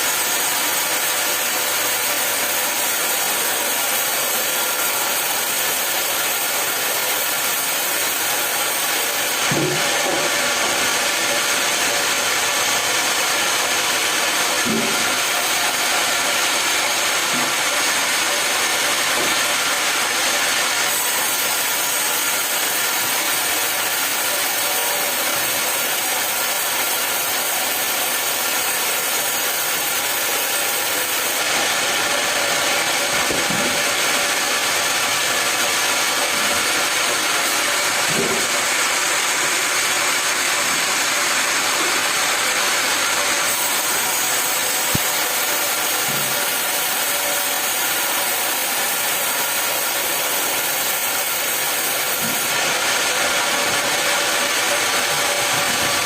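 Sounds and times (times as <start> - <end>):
sawmill whine and hiss: 0.0 - 56.0.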